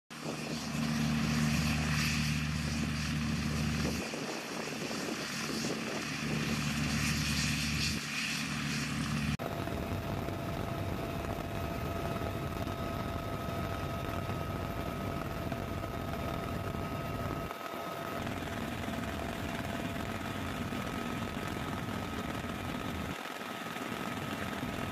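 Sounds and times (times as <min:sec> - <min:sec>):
helicopter cabin roar in flight: 0:00.1 - 0:24.9
helicopter engine and rotors: 0:00.1 - 0:24.9.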